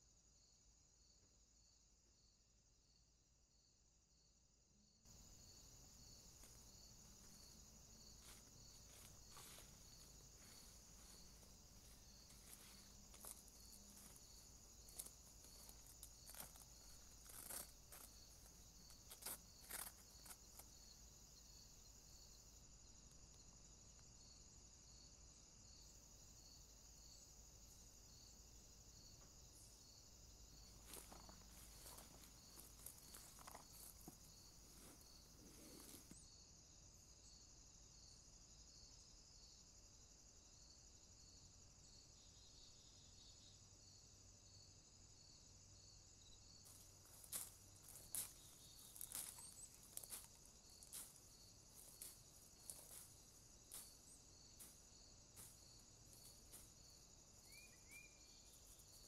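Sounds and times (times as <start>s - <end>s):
insect chirp: 0.0s - 59.0s
high insect buzz: 4.8s - 39.7s, 40.3s - 59.0s.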